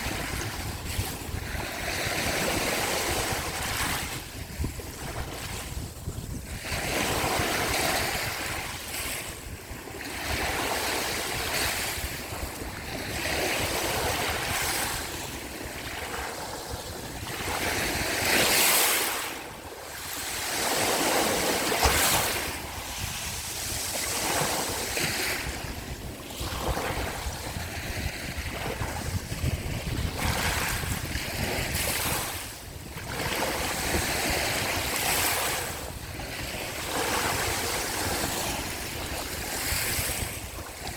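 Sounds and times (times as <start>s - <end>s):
sea waves washing onto shore: 0.0s - 40.9s
wind rumbling on microphone: 0.0s - 40.9s.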